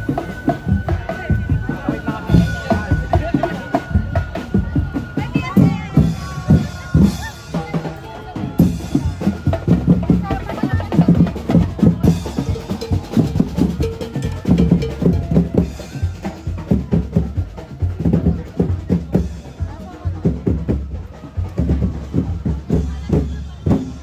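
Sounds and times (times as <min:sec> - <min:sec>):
drums playing quick beat: 0:00.0 - 0:24.0.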